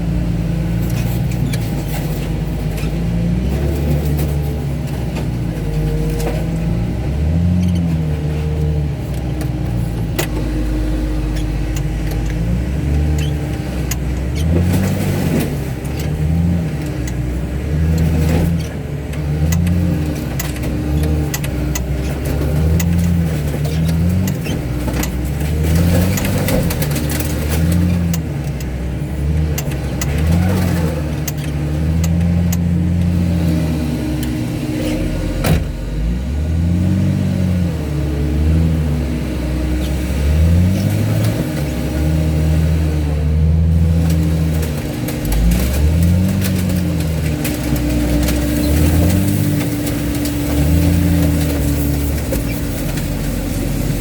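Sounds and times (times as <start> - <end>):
diesel engine revving: 0.0 - 54.0
metal cracking and crunching: 0.0 - 54.0.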